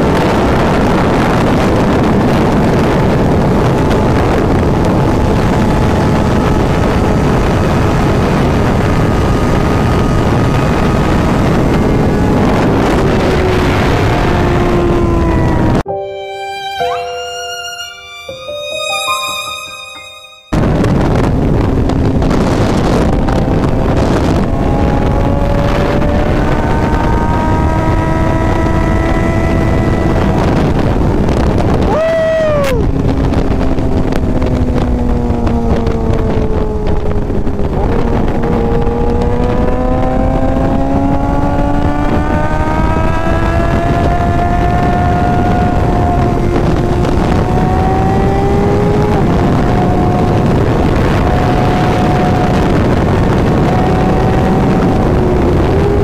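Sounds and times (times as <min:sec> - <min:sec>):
wind noise: 0:00.0 - 0:15.9, 0:20.5 - 0:56.0
motorcycle engine revving: 0:03.4 - 0:15.8, 0:21.6 - 0:31.7, 0:32.9 - 0:56.0.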